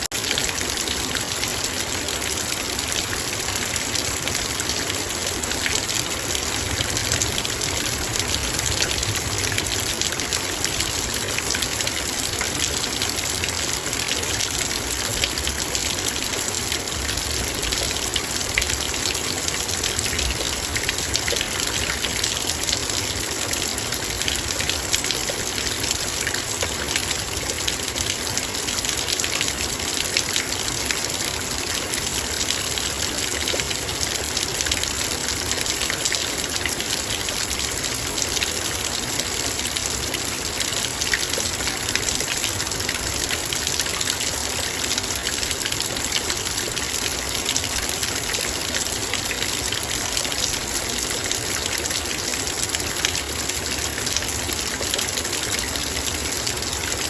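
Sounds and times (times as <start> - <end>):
heavy rain on metal bowl: 0.0 - 57.0.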